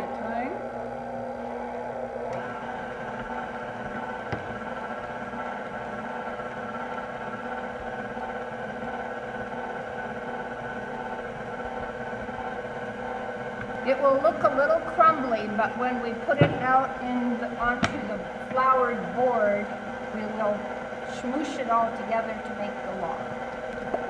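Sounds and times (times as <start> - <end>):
stand mixer motor humming: 0.0 - 24.0.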